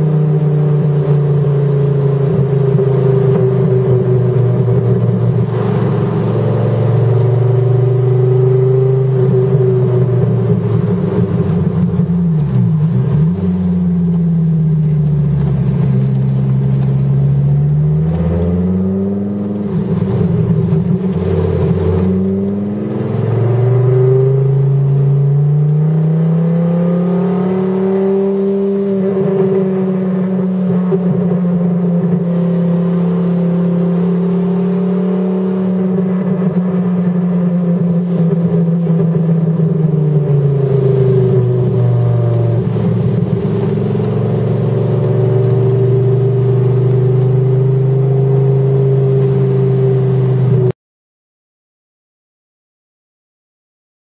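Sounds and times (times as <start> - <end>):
car engine revving inside cabin: 0.0 - 50.7.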